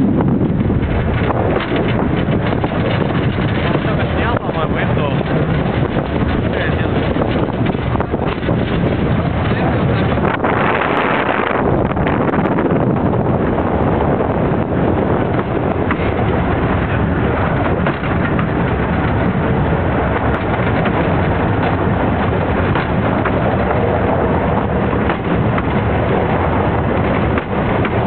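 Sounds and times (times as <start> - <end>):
train rumble and rattle: 0.0 - 28.0.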